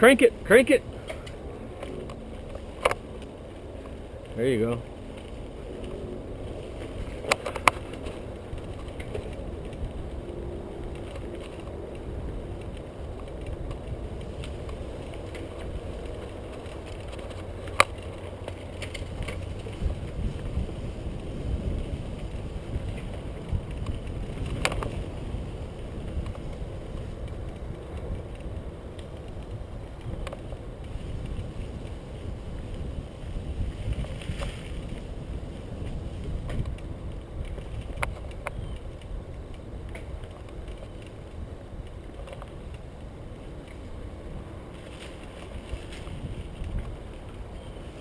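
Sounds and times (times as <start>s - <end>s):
bike rattles: 0.0s - 48.0s
bike tyre rumble on dirt: 0.0s - 48.0s
wind on microphone: 0.0s - 48.0s.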